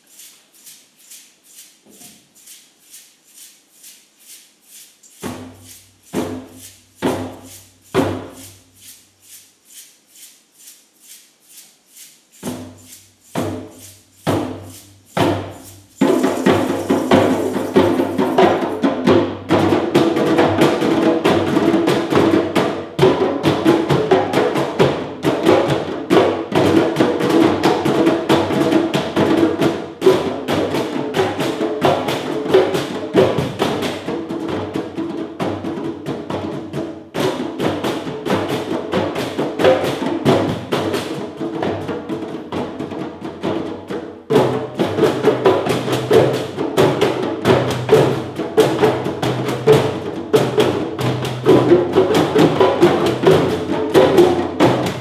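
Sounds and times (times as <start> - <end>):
hand drum ensemble playing: 0.0 - 55.0.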